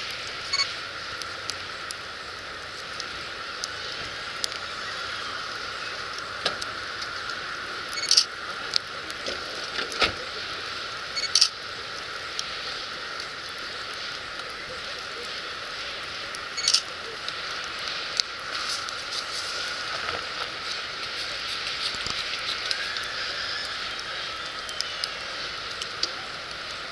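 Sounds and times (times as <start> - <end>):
wood fire crackling and popping: 0.0 - 26.9.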